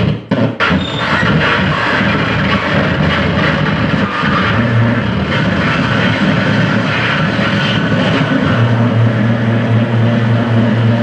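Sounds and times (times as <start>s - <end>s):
distorted harsh noise: 0.0s - 11.0s
low hum: 1.0s - 11.0s.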